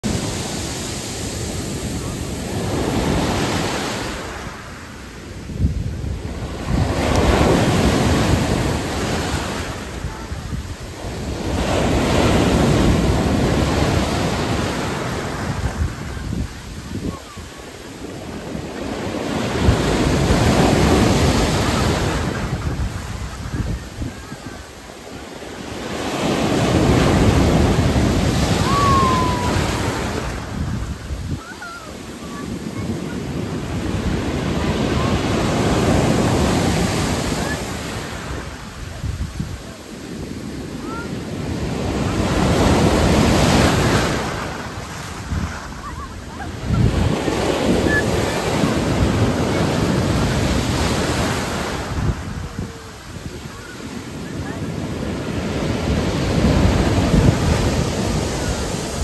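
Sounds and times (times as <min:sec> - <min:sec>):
storm surf crashing: 0:00.0 - 0:59.0.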